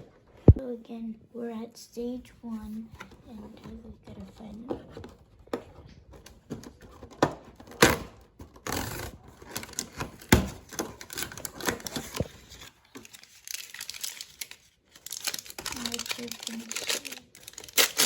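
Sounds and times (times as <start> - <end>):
packaging rustling: 3.2 - 18.0.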